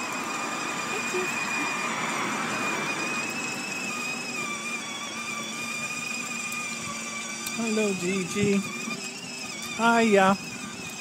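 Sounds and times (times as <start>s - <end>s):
electric motors whining: 0.0s - 11.0s
wheels rolling on path: 0.0s - 11.0s.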